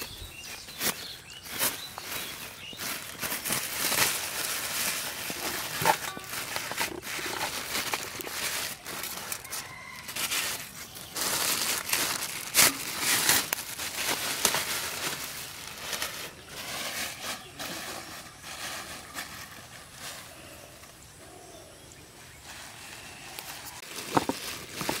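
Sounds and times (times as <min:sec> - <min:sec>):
plastic bags crinkling: 0:00.0 - 0:20.5, 0:23.4 - 0:25.0.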